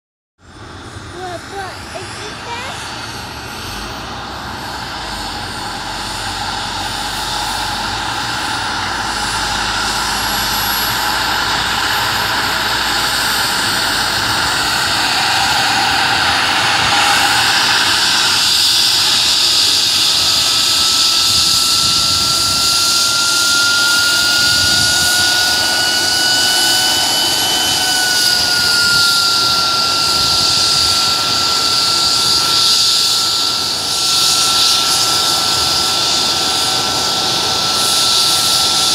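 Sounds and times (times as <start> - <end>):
helicopter running: 0.4 - 38.9
turbine whine: 0.4 - 38.9.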